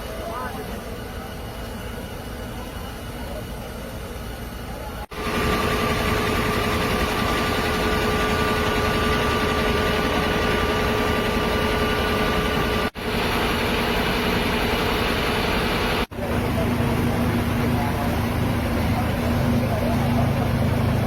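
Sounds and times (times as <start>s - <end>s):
fire engine idling: 0.0s - 21.0s.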